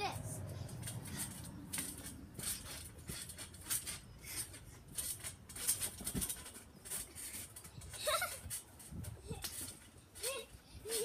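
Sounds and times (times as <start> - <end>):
trampoline springs squeaking: 0.0 - 11.0.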